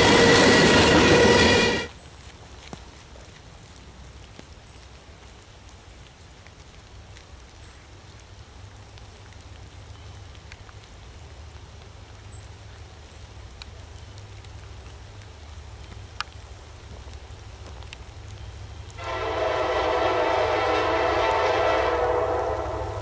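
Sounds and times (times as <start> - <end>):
light rain drops ticking: 1.9 - 23.0.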